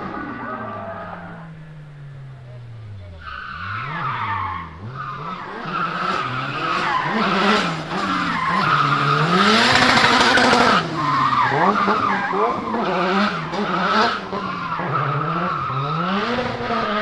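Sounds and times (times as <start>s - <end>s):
car engine revving: 0.0s - 17.0s
tyres squealing: 0.0s - 17.0s.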